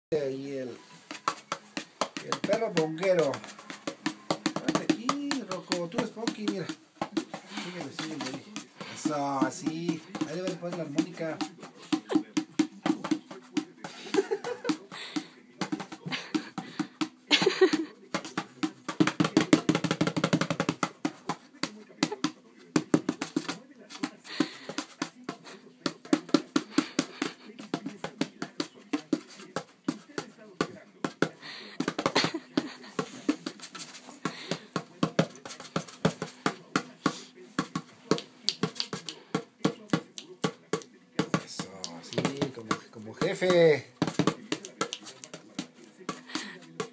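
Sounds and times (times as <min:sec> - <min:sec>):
bongo drums slapped by paws: 0:01.1 - 0:46.9.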